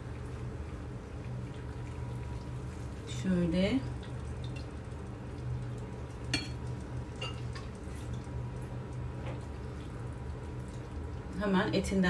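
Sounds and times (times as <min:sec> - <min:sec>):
liquid sloshing and dripping: 0:00.0 - 0:03.2, 0:03.8 - 0:11.4
steady low hum: 0:00.0 - 0:12.0.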